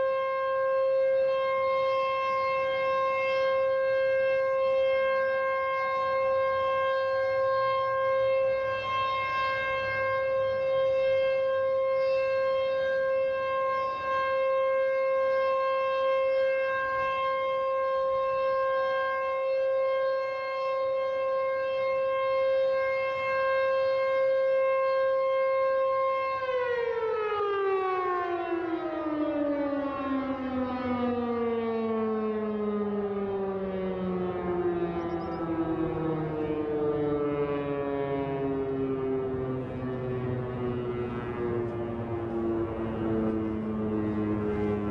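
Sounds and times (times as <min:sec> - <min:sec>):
warning siren winding down: 0:00.0 - 0:44.9.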